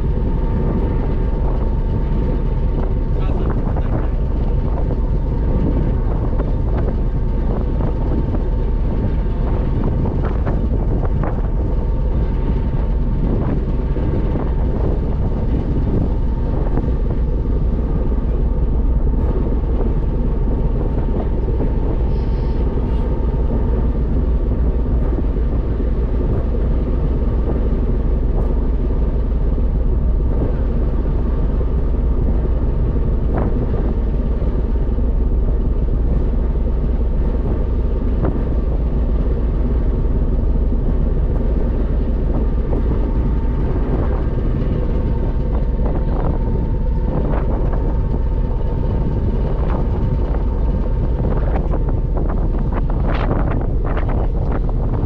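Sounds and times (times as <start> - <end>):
faint steady whine: 0.0 - 55.0
ferry engine droning: 0.0 - 55.0.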